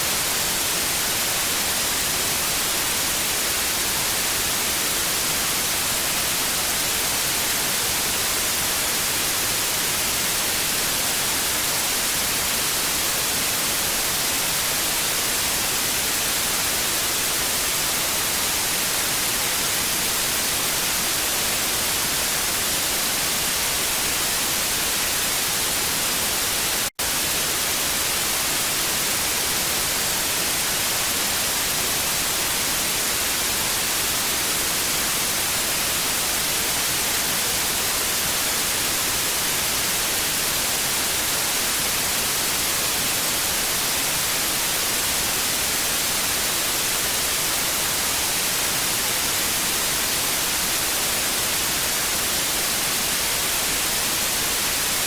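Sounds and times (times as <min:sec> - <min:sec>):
tv static hiss: 0:00.0 - 0:55.0.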